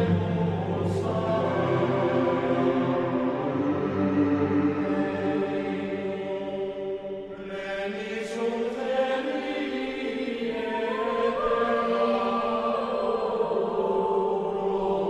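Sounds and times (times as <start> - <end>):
choral chanting: 0.0 - 15.0.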